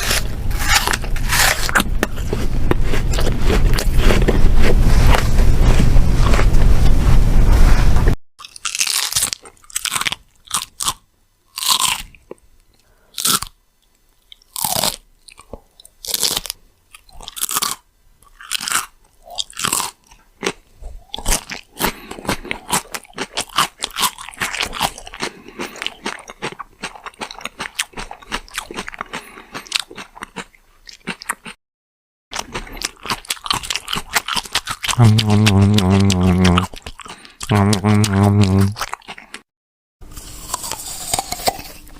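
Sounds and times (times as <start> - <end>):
crunchy food chewing: 0.0 - 6.5, 8.4 - 31.6, 32.3 - 39.5, 40.2 - 41.9.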